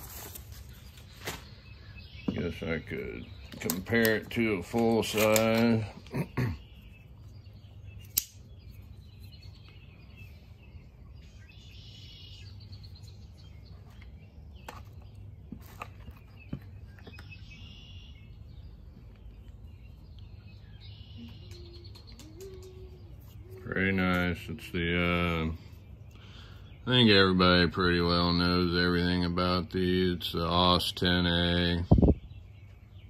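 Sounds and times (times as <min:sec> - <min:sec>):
bird chirping trills: 0:00.0 - 0:33.0.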